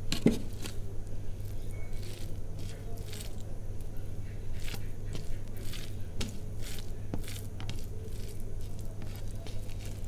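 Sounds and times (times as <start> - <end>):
steady low hum: 0.0 - 10.0
fingers squishing rice on a plate: 0.2 - 10.0.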